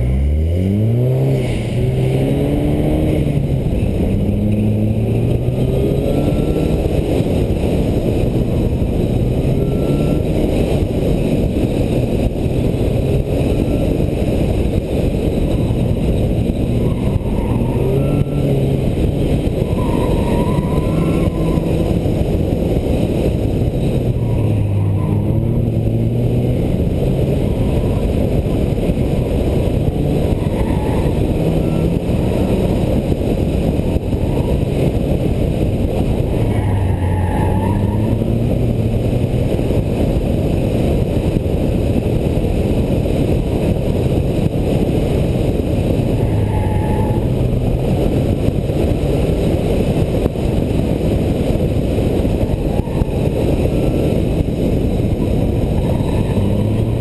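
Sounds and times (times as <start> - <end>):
car engine revving: 0.0 - 57.0
road and wind noise: 0.0 - 57.0.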